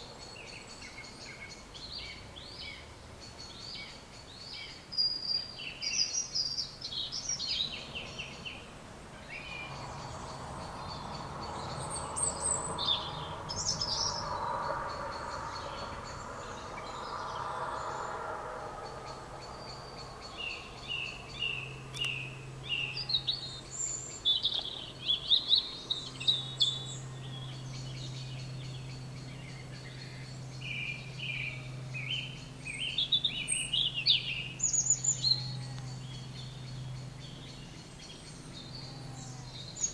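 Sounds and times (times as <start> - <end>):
songbirds singing: 0.0 - 39.9
broad background rumble: 7.0 - 39.9
steady low hum: 7.6 - 39.9.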